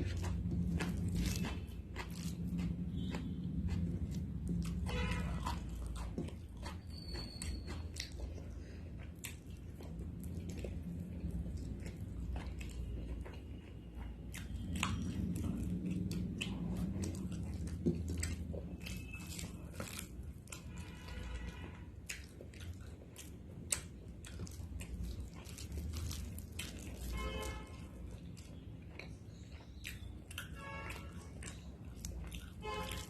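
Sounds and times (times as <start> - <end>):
food crunch: 0.0 - 33.0
wet chewing and mouth smacks: 0.0 - 33.0.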